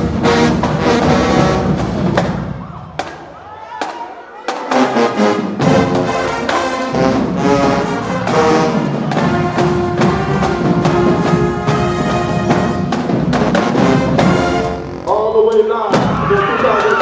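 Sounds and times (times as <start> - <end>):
marching band brass: 0.0 - 15.6
drums and percussion hits: 0.0 - 17.0.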